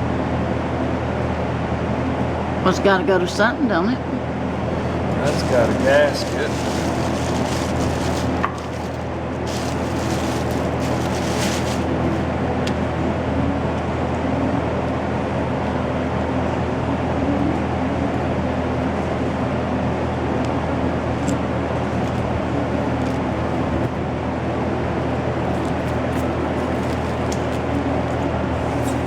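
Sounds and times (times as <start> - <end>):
machine droning: 0.0 - 29.0.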